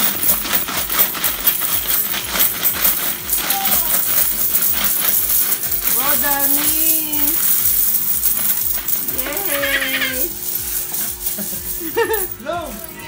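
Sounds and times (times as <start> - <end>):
coins rattling in plastic piggy bank: 0.0 - 13.0
coins spilling onto coins: 0.0 - 13.0.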